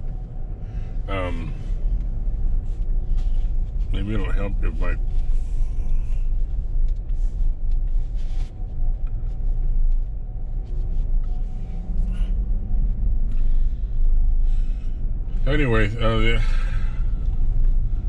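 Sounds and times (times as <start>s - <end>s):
vehicle road and engine rumble: 0.0s - 18.0s.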